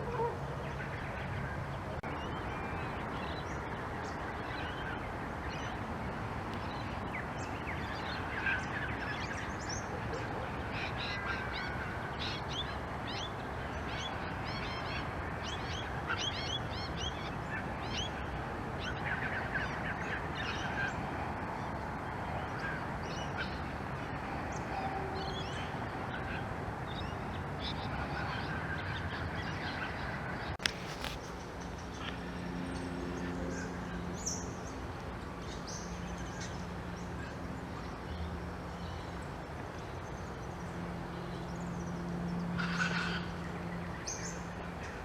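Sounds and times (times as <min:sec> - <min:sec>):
steady background noise: 0:00.0 - 0:45.0.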